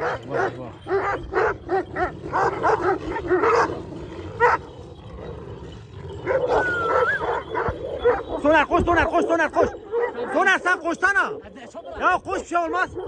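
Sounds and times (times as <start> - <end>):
large dogs barking: 0.0 - 13.0.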